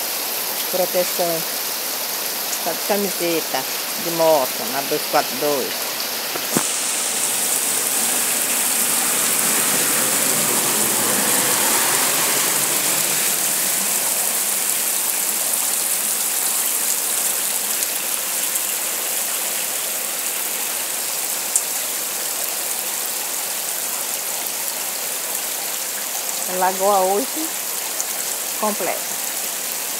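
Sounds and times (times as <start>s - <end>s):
heavy rain on wet ground: 0.0s - 29.9s.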